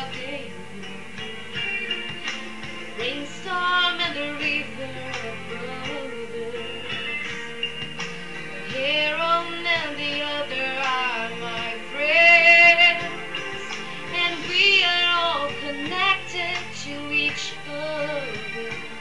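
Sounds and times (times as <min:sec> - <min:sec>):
girl singing: 0:00.0 - 0:01.0, 0:03.0 - 0:07.2, 0:08.7 - 0:19.0
instrumental backing track: 0:00.0 - 0:19.0.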